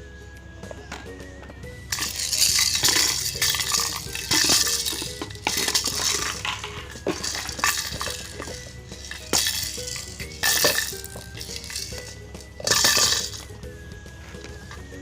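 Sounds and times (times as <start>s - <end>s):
faint background music: 0.0s - 15.0s
hard objects clattering: 0.6s - 15.0s.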